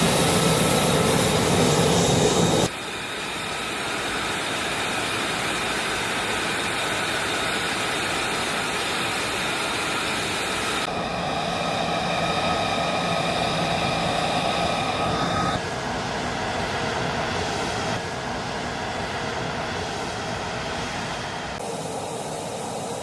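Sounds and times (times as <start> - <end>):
jet engine rushing and whining: 0.0 - 23.0.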